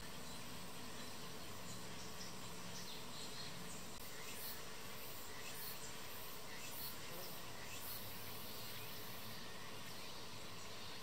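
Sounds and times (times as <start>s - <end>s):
insects calling: 0.0s - 11.0s.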